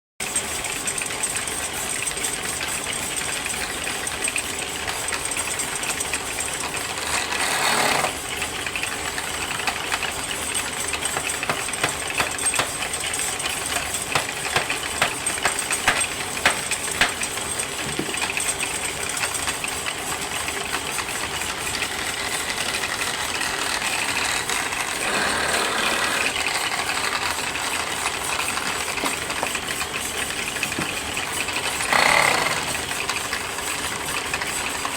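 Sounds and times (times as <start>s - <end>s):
wood lathe rattling and clicking: 0.4s - 34.9s.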